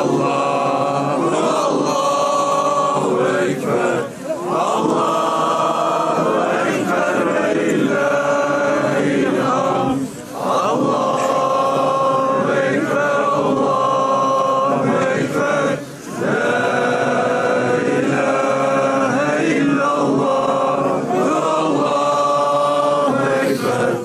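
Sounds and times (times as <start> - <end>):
crowd of men chanting: 0.0 - 24.0.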